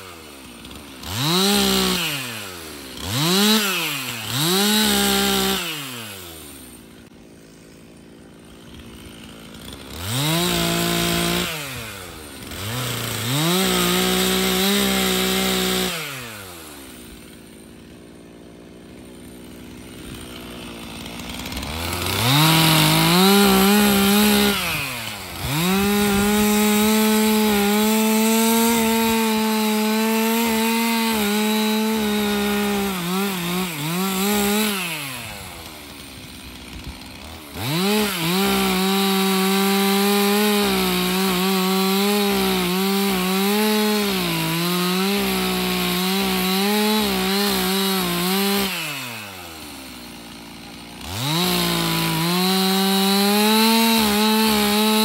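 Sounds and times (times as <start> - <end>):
chainsaw cutting boards: 0.0 - 55.0.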